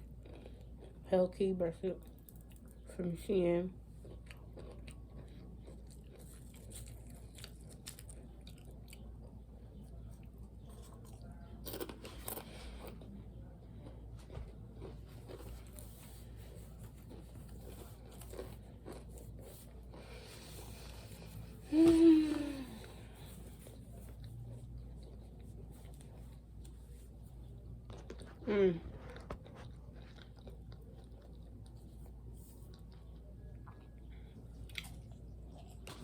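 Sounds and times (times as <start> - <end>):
person chewing crunchy crackers: 0.0 - 1.1, 2.0 - 2.9, 3.8 - 36.0.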